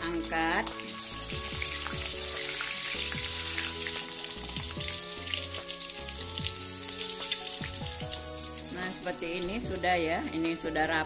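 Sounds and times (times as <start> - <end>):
fish frying in hot oil: 0.0 - 11.0
soft background music: 0.0 - 11.0.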